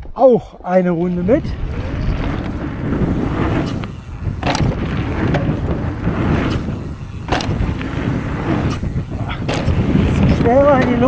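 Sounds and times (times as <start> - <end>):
wind rushing over microphone: 0.9 - 11.0
mountain bike rumbling on trail: 1.0 - 11.0.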